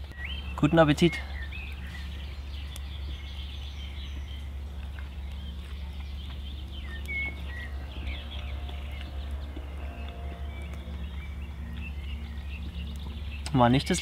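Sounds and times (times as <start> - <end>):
songbirds chirping: 0.0 - 14.0
low rumble: 1.2 - 14.0.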